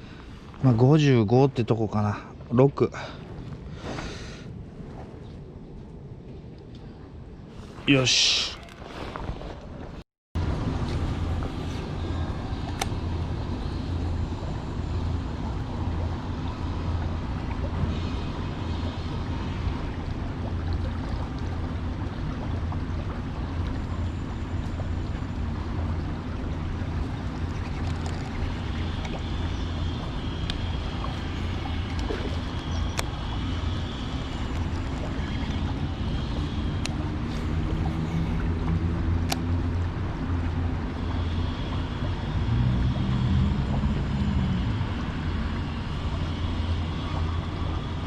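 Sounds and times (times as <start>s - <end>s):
low outdoor rumble: 0.0s - 48.0s.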